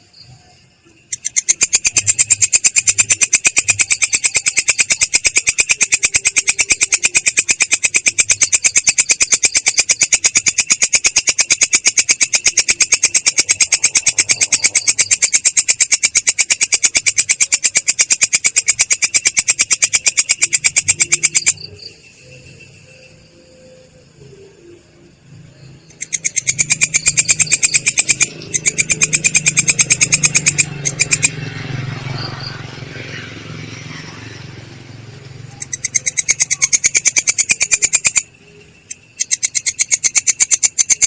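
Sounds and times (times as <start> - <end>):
insect stridulating rapid pulses: 0.0 - 41.0.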